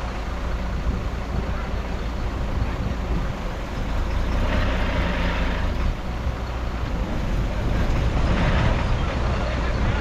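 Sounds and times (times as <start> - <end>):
diesel engine of heavy machinery: 0.0 - 10.0
rush of noise: 0.0 - 10.0.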